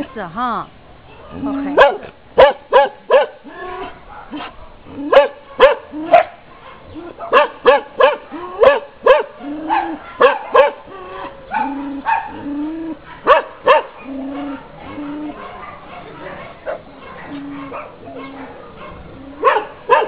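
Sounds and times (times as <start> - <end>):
dogs barking: 1.2 - 20.0.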